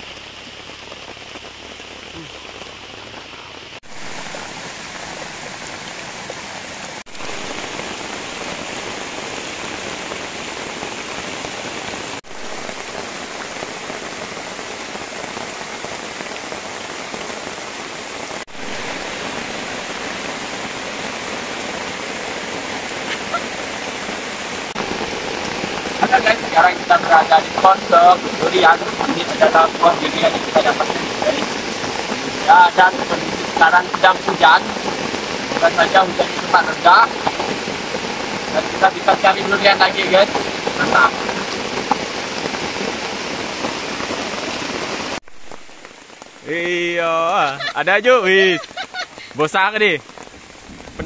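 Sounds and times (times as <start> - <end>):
heavy rain on forest canopy: 0.0 - 51.0.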